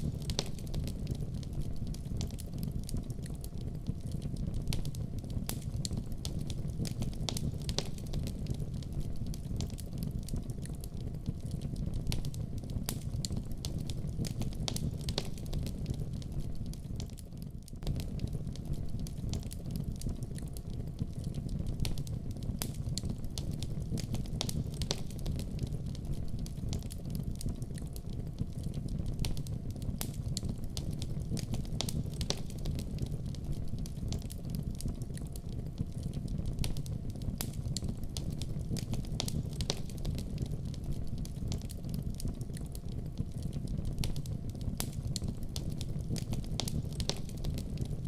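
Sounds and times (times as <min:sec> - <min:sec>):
fireplace fire crackling: 0:00.0 - 0:48.0.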